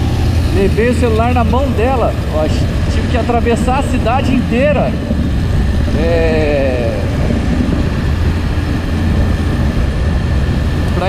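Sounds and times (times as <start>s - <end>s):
motorcycle engine: 0.0s - 11.0s
wind rushing over microphone: 0.0s - 11.0s.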